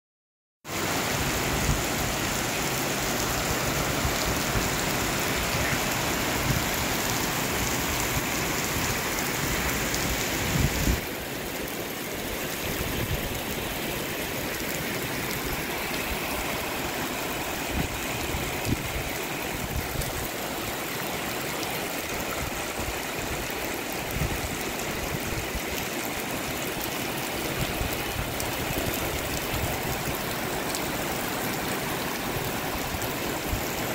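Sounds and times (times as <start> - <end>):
heavy rain hissing: 0.7 - 33.9.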